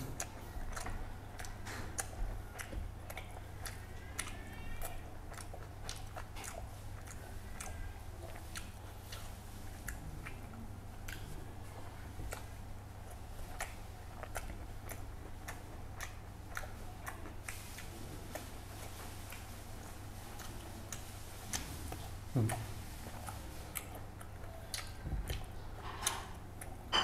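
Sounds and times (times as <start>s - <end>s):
man chewing food: 0.0s - 27.0s.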